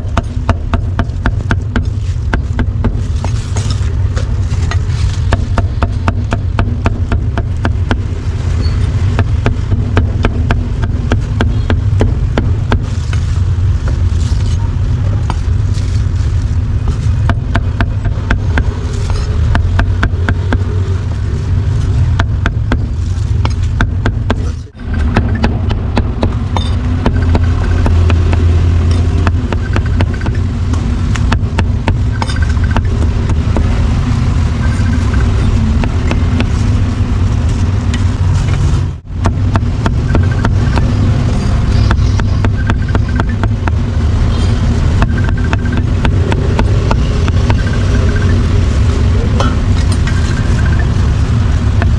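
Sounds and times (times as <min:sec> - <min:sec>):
street traffic rumble: 0:00.0 - 0:51.9.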